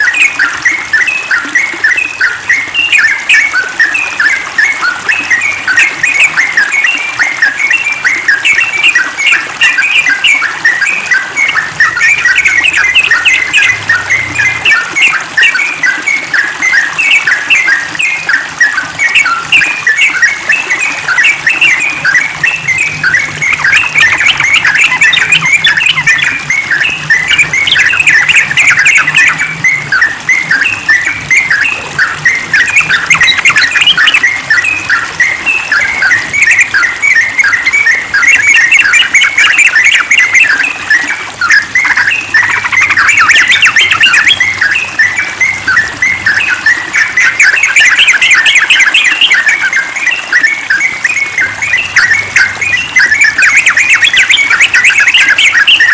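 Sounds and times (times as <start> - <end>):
bulbuls chattering song: 0.0 - 55.9.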